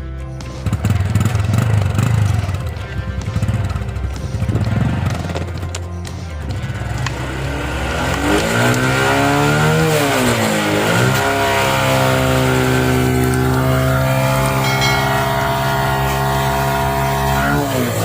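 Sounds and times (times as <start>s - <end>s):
motorcycle engine revving: 0.4s - 18.0s.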